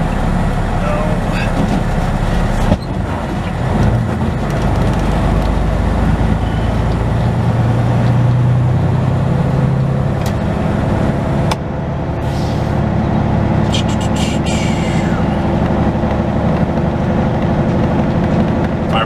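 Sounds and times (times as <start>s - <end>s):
truck diesel engine hum: 0.0s - 19.0s.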